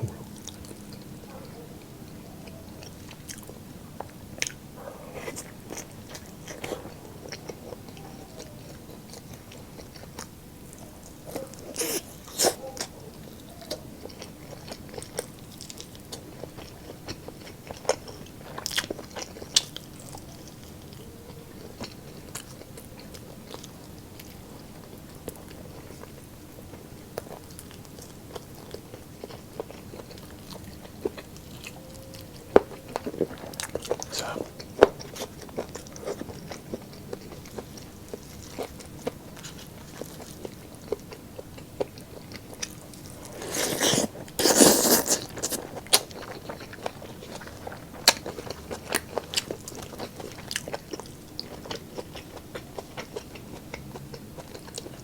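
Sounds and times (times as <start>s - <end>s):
chewing with crunchy bites: 0.0s - 55.0s.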